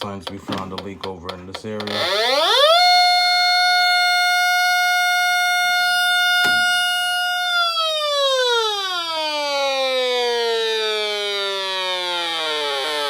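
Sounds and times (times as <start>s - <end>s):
gas detector alarm tone: 1.8s - 13.0s.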